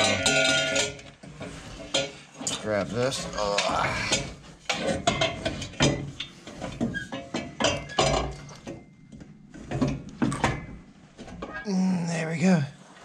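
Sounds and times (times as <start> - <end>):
metal header clanking and scraping: 0.0 - 11.6.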